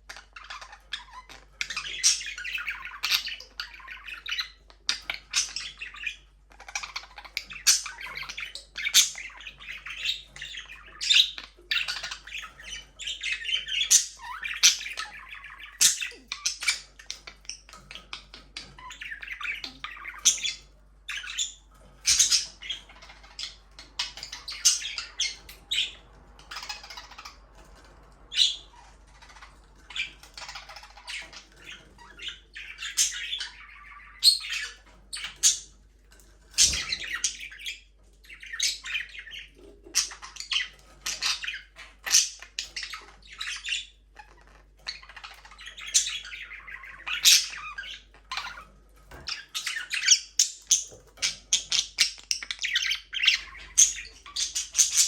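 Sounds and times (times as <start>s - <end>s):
budgerigars chirping and squawking: 0.0s - 55.0s.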